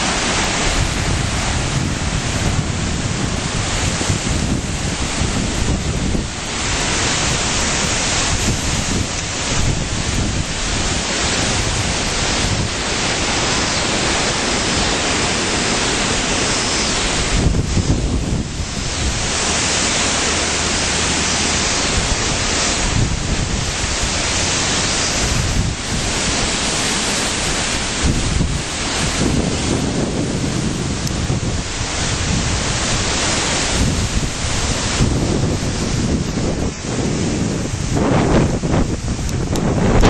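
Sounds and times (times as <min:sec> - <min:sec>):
strong gusty wind: 0:00.0 - 0:40.0
wind buffeting microphone: 0:00.0 - 0:40.0.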